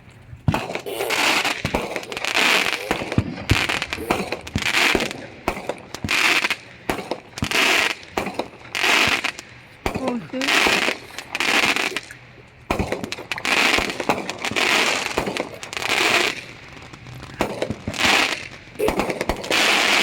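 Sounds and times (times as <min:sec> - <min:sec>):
fireworks crackle and hiss: 0:00.0 - 0:20.0
fireworks bangs: 0:00.4 - 0:20.0.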